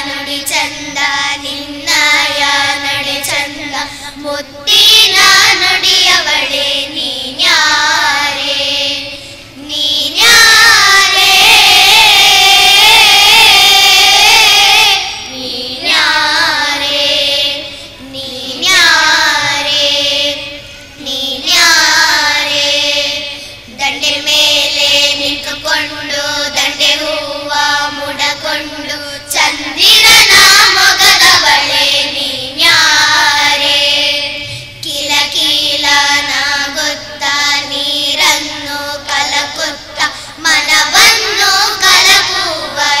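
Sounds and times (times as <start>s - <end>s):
children singing in unison: 0.0s - 43.0s.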